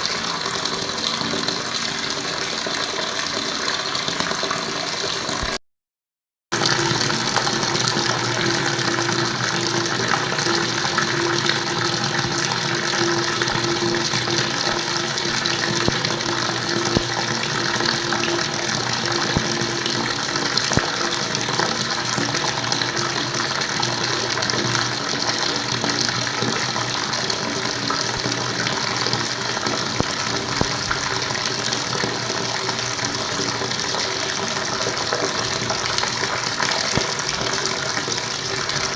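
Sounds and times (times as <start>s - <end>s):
water rushing: 6.6s - 38.9s.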